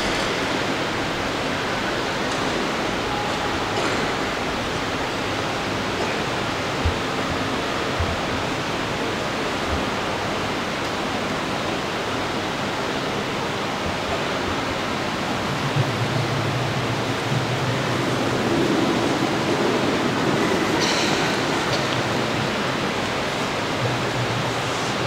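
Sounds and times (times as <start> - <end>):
rushing room noise: 0.0 - 25.0.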